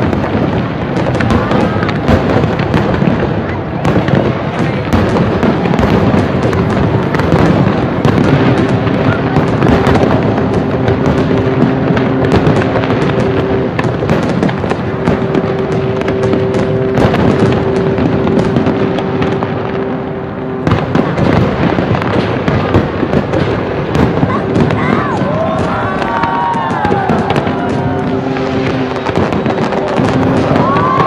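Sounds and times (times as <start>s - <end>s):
fireworks crackling and popping: 0.0s - 31.0s.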